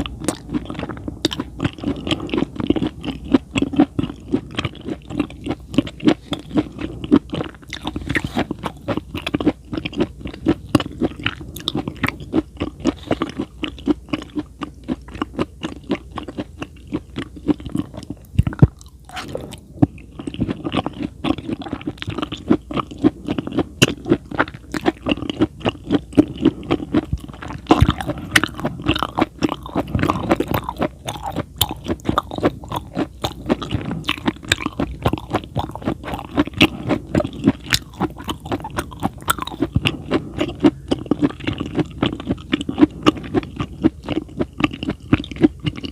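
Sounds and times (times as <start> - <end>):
mouth chewing food with clicks: 0.0 - 45.9.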